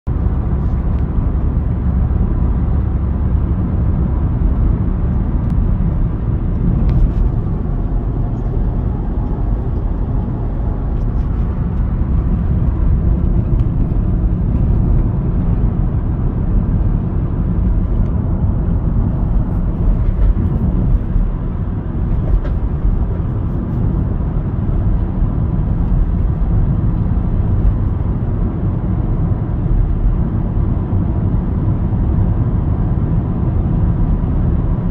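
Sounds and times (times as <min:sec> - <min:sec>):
diesel engine drone: 0:00.0 - 0:34.9
road noise: 0:00.0 - 0:34.9.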